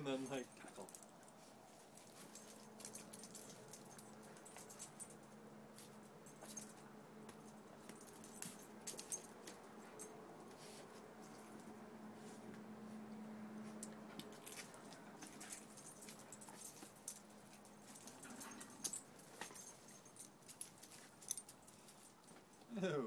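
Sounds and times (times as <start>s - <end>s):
dog collar tags jingling: 0.0s - 11.8s, 13.8s - 22.7s.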